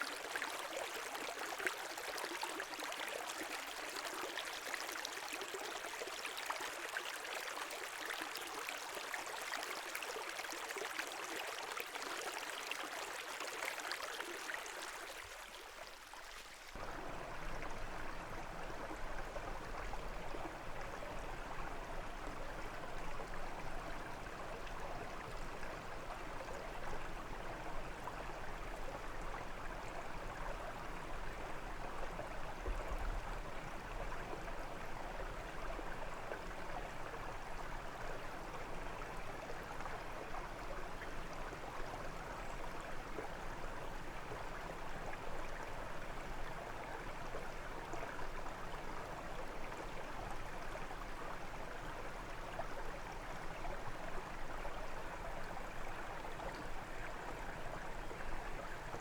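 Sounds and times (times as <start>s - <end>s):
brook water burbling over stones: 0.0s - 59.0s.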